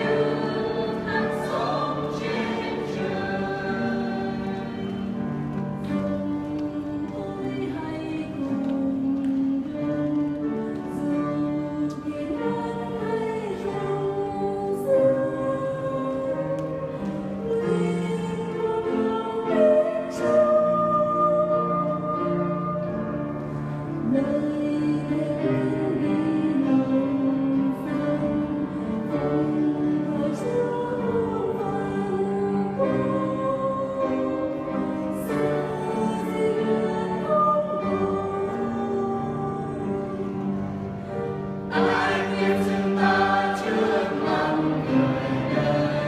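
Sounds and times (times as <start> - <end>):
mixed choir singing a hymn: 0.0 - 23.2, 24.0 - 46.0.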